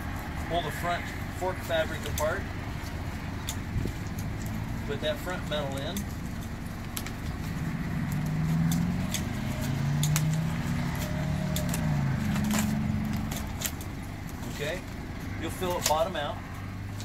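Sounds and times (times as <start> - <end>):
low engine-like hum: 0.0 - 17.0.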